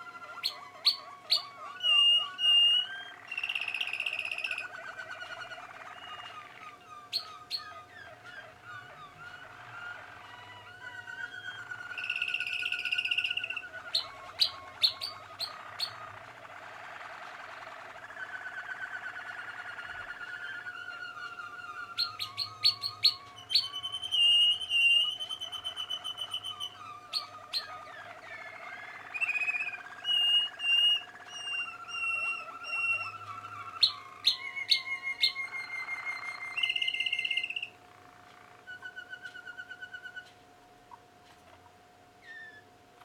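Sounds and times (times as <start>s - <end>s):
canaries singing: 0.0s - 43.0s.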